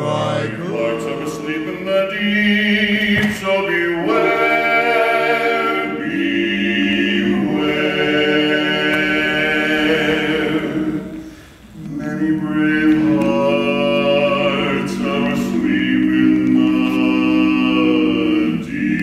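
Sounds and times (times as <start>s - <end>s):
male quartet singing a cappella: 0.0s - 19.0s.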